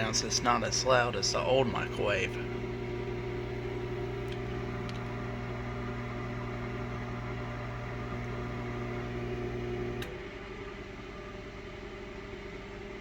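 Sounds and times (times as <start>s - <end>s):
fan and turntable running: 0.0s - 13.0s
microwave oven humming: 0.0s - 13.0s.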